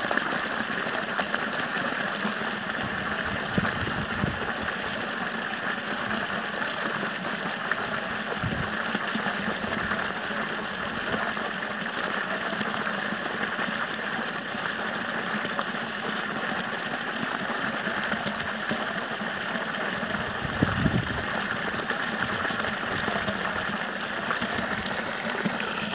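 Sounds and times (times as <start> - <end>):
water gushing and splashing: 0.0 - 25.9.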